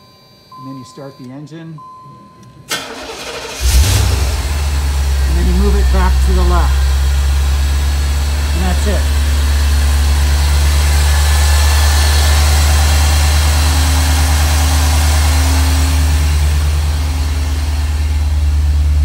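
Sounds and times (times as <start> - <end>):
car engine idling: 2.6 - 19.0.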